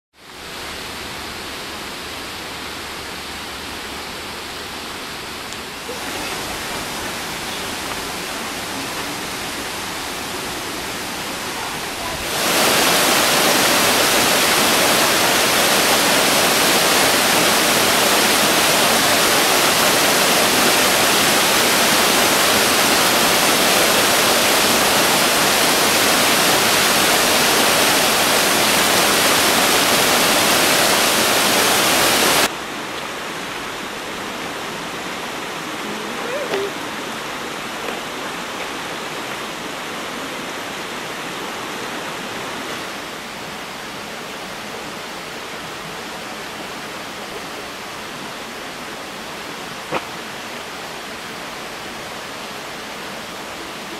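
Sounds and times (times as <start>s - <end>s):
waterfall rushing onto rocks: 0.2s - 53.9s.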